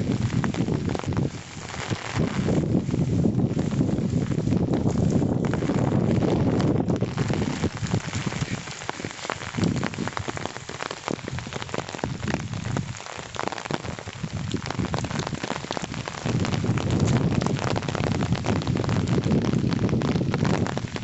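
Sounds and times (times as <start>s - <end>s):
rain drops hitting: 0.0s - 21.0s
rain hiss: 0.0s - 21.0s
wind rumble on microphone: 0.0s - 21.0s.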